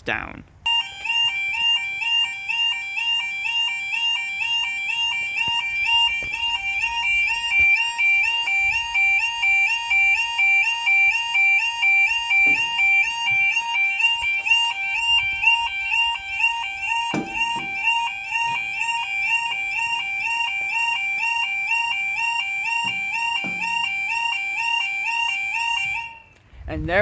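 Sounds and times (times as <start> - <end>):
two-tone electronic warning alarm: 0.7 - 26.4.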